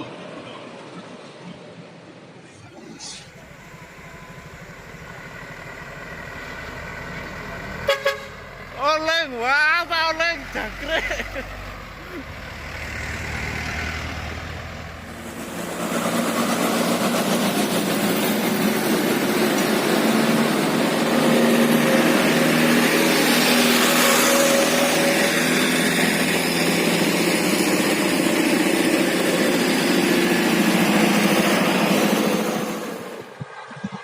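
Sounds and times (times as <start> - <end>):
vehicle engine running: 2.8 - 34.0.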